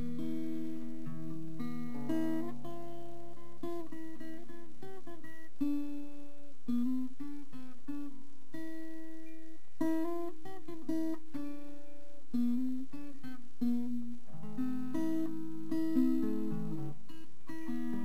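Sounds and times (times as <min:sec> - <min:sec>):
acoustic guitar melody: 0:00.0 - 0:18.0.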